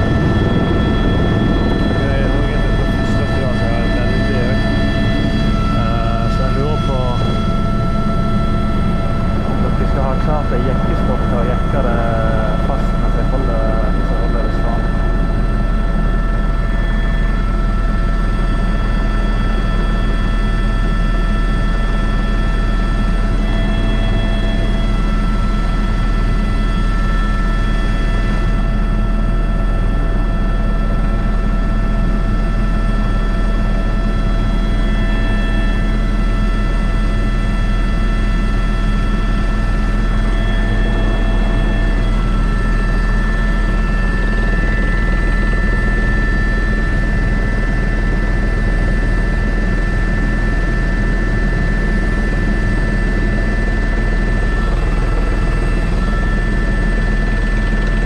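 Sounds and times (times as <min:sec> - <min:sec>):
helicopter rotor and turbine drone: 0:00.0 - 0:58.0.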